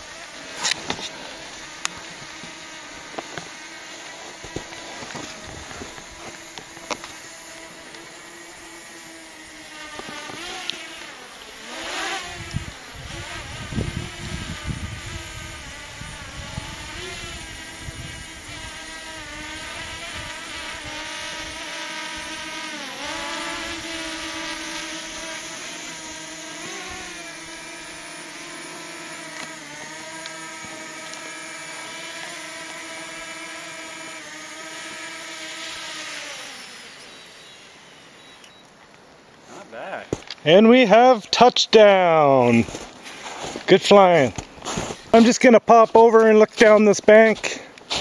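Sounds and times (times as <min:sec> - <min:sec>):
drone propellers whining: 0:00.0 - 0:39.0.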